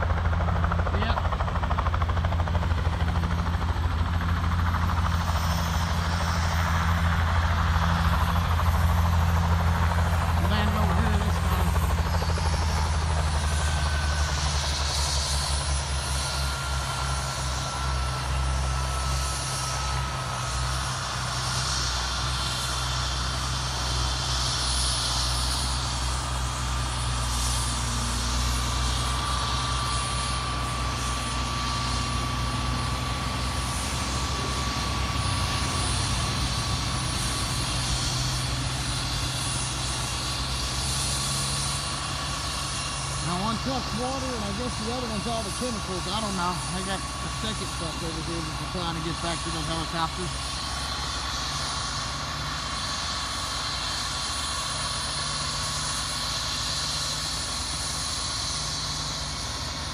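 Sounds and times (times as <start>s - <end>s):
helicopter engine and rotor: 0.0s - 59.9s.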